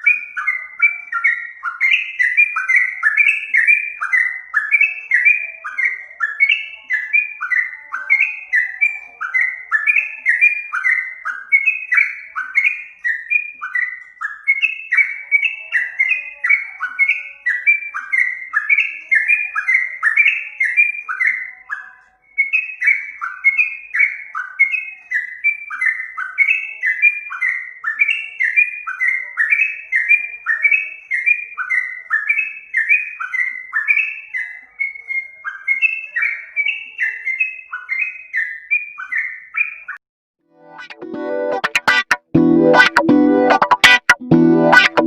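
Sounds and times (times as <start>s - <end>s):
bird singing whistled notes: 0.0s - 40.0s.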